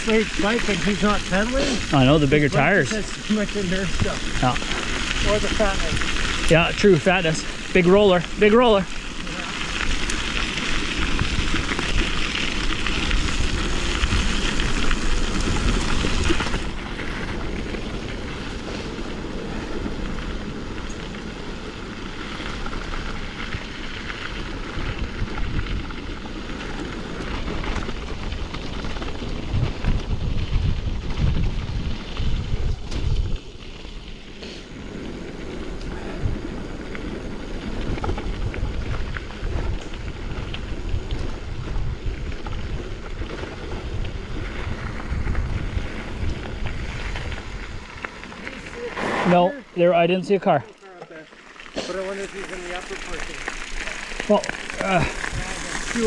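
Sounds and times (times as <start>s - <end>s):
wind buffeting microphone: 0.0s - 33.7s, 34.7s - 49.9s
bike tyre and drivetrain rattle: 0.0s - 56.0s.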